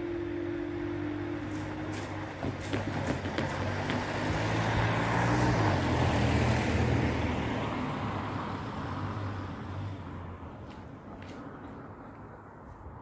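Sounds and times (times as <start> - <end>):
car driving past: 0.0 - 10.6.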